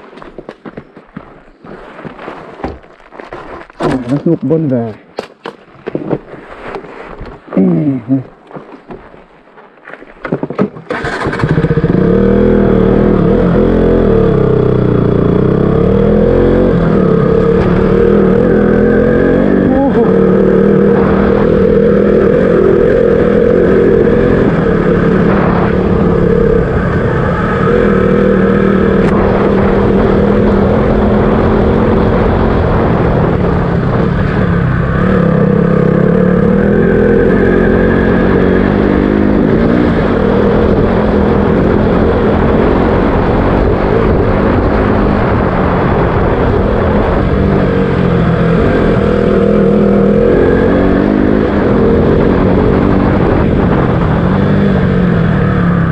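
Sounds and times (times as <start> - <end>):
motorcycle engine running: 10.9 - 55.9.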